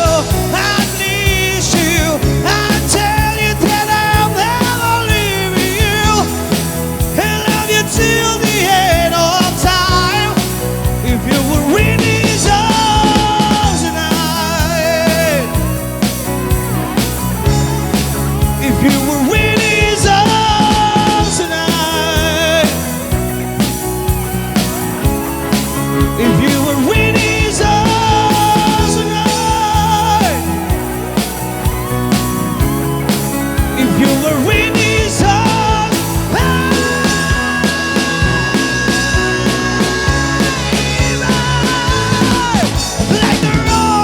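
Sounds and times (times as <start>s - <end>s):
rock band playing live: 0.0s - 44.0s.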